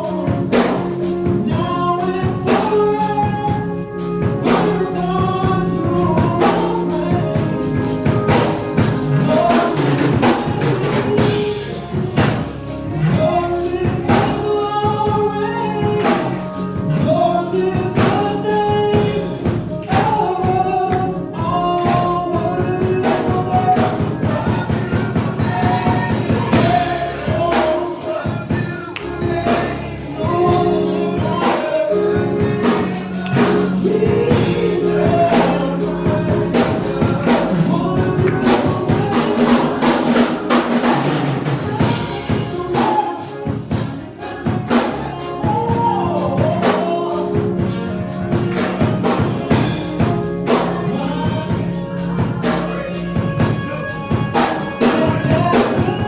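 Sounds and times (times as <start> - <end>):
drums steady beat: 0.0 - 56.0
gospel singing with live band: 0.0 - 56.0.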